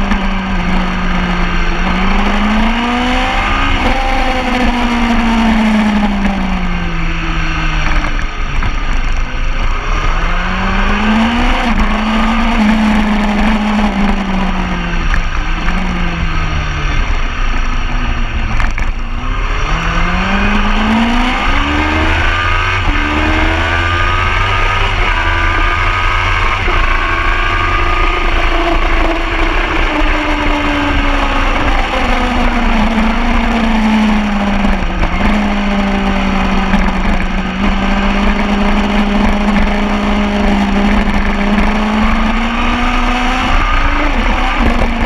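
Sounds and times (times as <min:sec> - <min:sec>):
motorcycle engine revving: 0:00.0 - 0:45.0
wind noise: 0:00.0 - 0:45.0.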